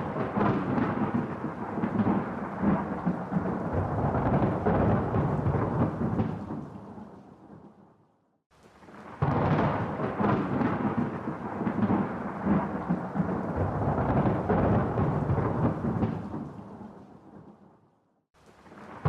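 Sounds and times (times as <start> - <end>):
thunder clap rolling: 0.0 - 7.7, 8.8 - 17.5.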